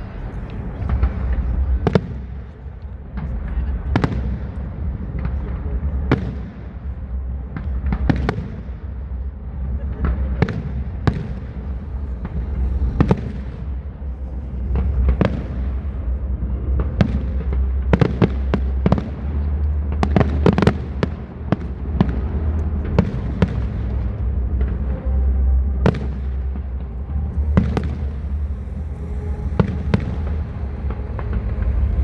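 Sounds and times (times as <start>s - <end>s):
fireworks bursting with bangs: 0.0s - 32.0s
steady low rumble: 0.0s - 32.0s.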